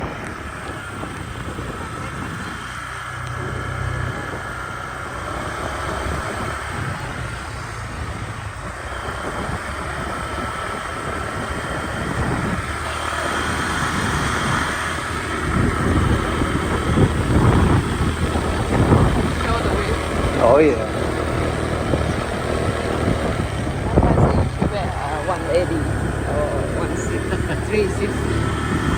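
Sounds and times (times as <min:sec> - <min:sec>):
vehicle engine running: 0:00.0 - 0:28.9
wind rushing over microphone: 0:00.0 - 0:28.9.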